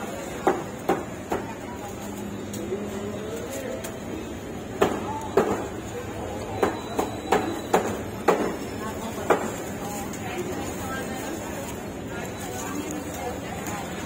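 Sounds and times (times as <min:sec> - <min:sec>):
faint voices: 0:00.0 - 0:14.0.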